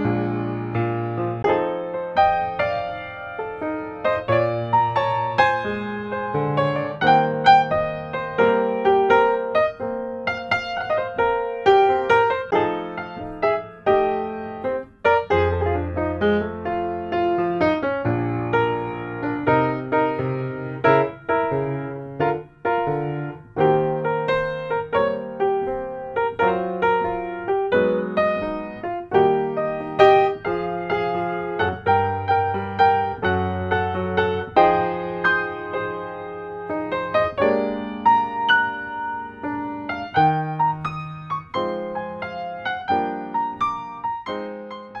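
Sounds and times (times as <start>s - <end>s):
piano chords: 0.0s - 45.0s.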